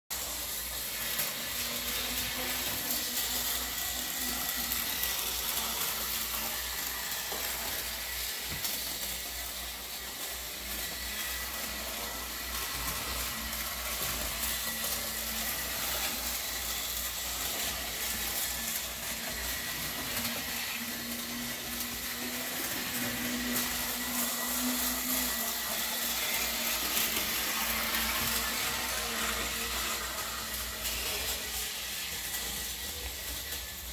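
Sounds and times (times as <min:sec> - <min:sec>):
model trains whirring on track: 0:00.1 - 0:33.9.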